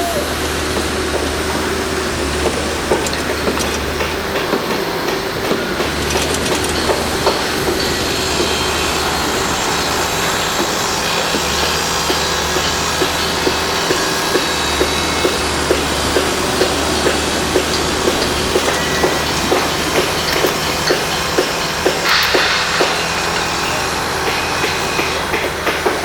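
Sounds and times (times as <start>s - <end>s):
construction machinery din: 0.0s - 26.0s
rhythmic clanking knocks: 0.2s - 26.0s.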